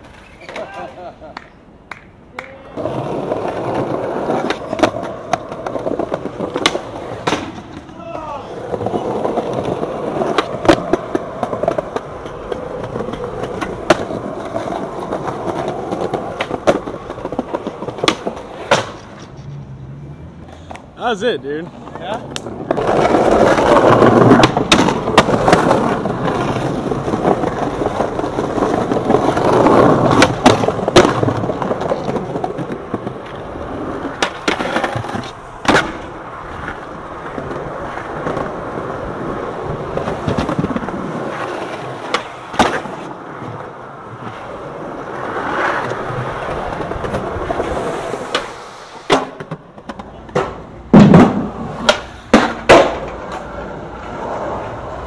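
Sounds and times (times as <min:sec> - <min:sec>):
skateboard popping and landing: 0:00.0 - 0:19.6, 0:21.8 - 0:55.0
skateboard wheels rolling on concrete: 0:00.0 - 0:55.0.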